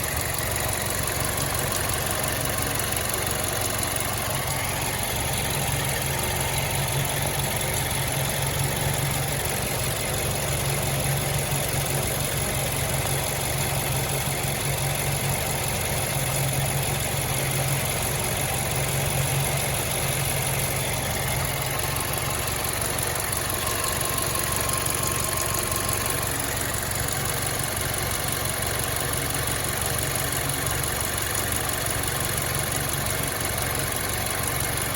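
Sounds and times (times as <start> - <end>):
car engine idling: 0.0 - 34.9
engine ticking: 0.0 - 34.9.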